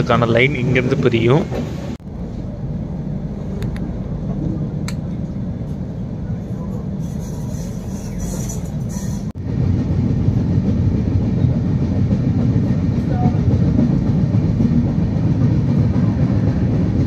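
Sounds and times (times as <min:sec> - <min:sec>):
passing train coaches: 0:00.0 - 0:17.0
train wheels rumbling on rails: 0:00.0 - 0:17.0.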